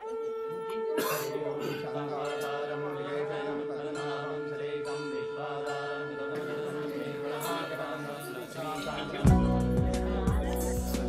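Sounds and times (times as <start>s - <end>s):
person chanting: 1.2s - 11.0s.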